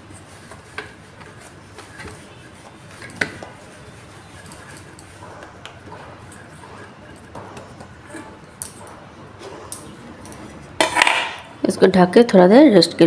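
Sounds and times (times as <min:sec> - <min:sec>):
hands kneading dough: 0:00.0 - 0:10.8.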